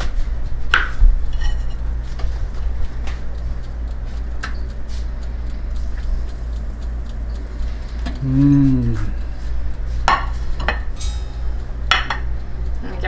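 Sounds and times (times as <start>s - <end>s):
dishes clicking: 0.0s - 13.0s.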